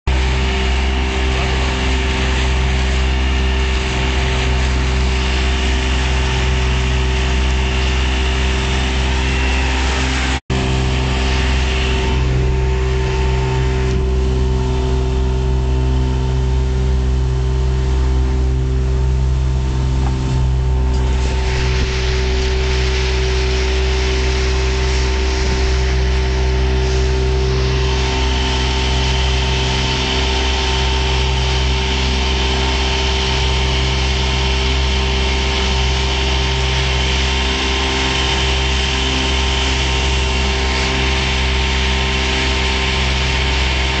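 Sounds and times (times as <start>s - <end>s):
outboard motor running: 0.1s - 44.0s
water rushing past boat: 0.1s - 44.0s.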